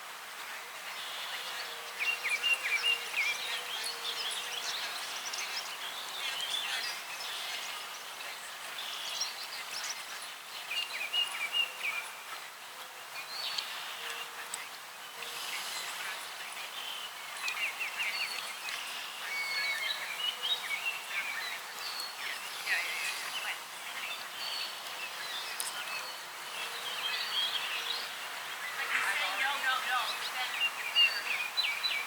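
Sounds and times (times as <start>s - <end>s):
steady outdoor hiss: 0.0s - 32.0s
songbirds chirping and singing: 0.4s - 32.0s.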